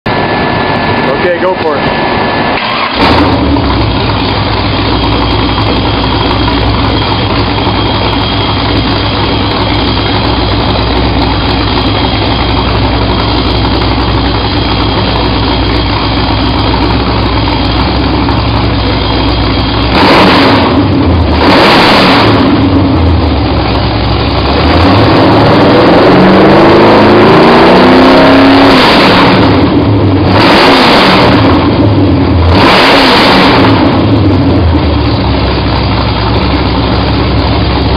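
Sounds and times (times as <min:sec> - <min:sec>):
engine idling and revving: 0:00.1 - 0:37.9.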